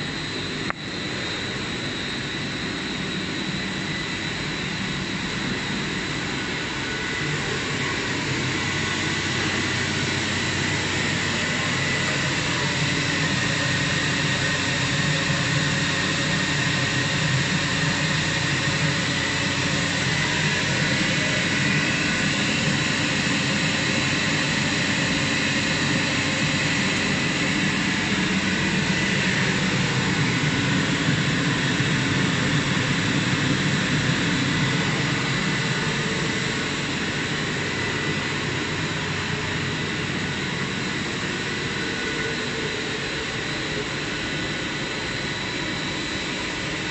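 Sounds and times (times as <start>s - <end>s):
faint high whine: 0.0s - 46.9s
industrial plant roar: 0.0s - 46.9s.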